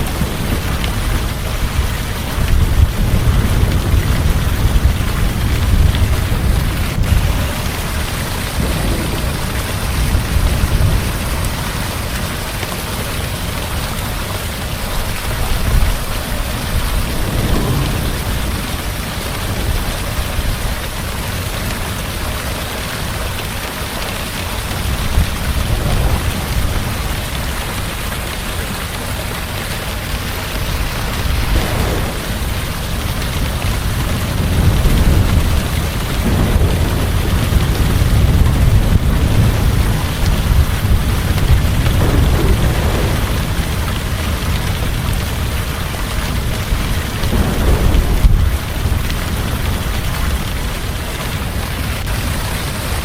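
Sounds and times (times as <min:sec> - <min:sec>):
heavy rain pouring: 0:00.0 - 0:53.0
thunder rumbling: 0:00.0 - 0:53.0.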